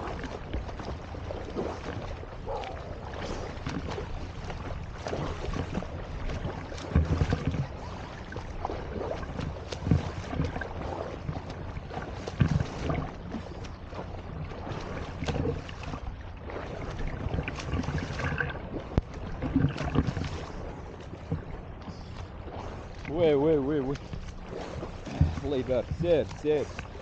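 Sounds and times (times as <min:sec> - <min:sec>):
water splashing from swimming strokes: 0:00.0 - 0:27.0
wind rumbling on microphone: 0:00.0 - 0:27.0.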